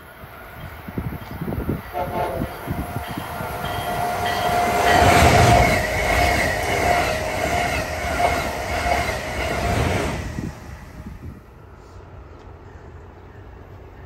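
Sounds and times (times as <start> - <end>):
high-speed train rushing past: 0.0 - 14.0.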